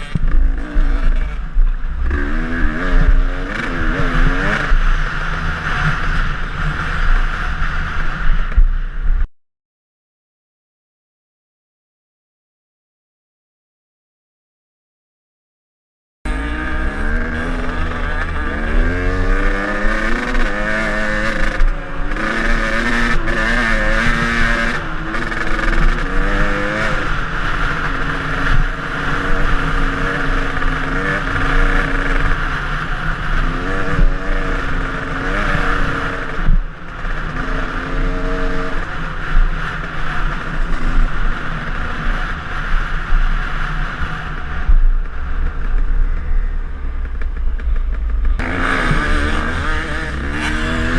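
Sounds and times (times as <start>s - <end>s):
dirt bike engine revving: 0.0s - 8.6s, 16.3s - 50.9s.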